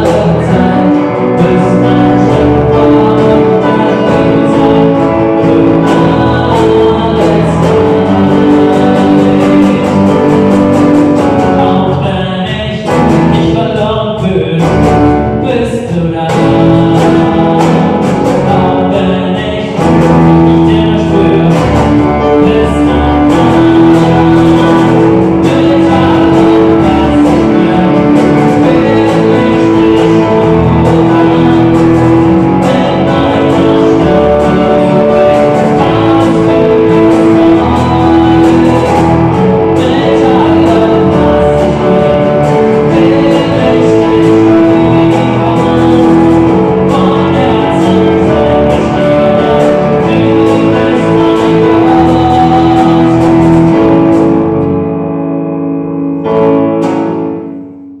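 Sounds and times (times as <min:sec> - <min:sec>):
bass guitar: 0:00.0 - 0:58.0
electric guitar: 0:00.0 - 0:58.0.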